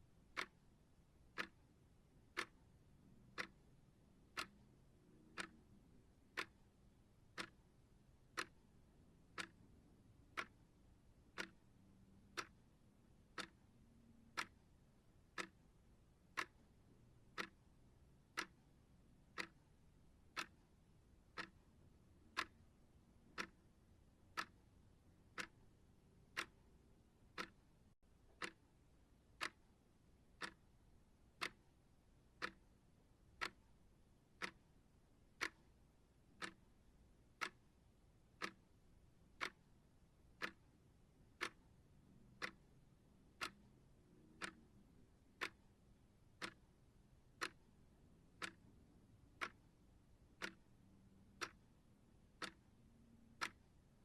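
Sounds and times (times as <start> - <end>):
clock ticking: 0.1 - 54.0.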